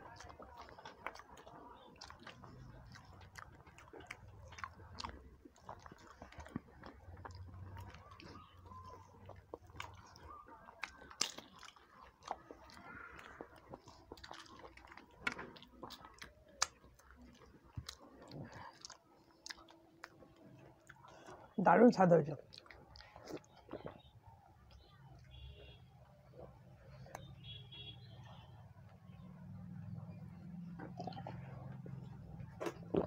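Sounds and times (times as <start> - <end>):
chewing and mouth noises: 0.0 - 33.0.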